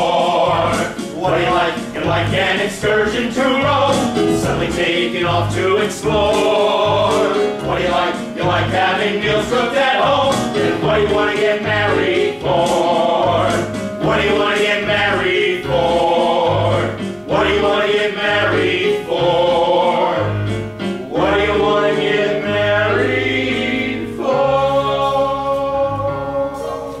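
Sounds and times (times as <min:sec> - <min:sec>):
keyboard and band accompaniment: 0:00.0 - 0:27.0
men singing in harmony: 0:00.0 - 0:27.0.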